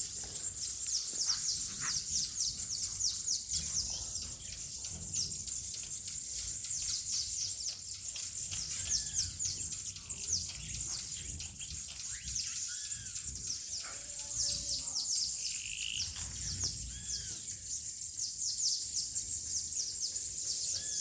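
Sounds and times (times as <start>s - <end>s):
birds chirping: 0.0s - 21.0s
lower arched bird calls: 0.0s - 21.0s.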